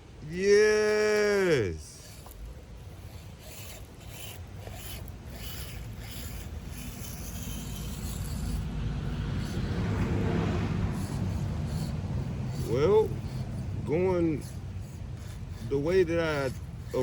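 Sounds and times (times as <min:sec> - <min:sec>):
small rc car motor whirring: 0:00.8 - 0:17.0
tyres rubbing and scraping: 0:01.0 - 0:17.0.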